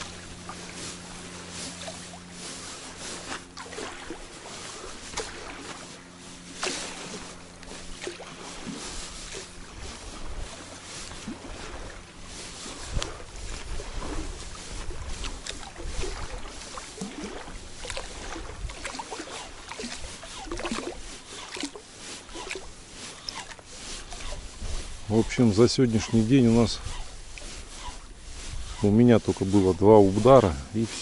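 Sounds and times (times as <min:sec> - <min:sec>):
low steady hum: 0:00.0 - 0:31.0
water around boat hull: 0:00.0 - 0:31.0.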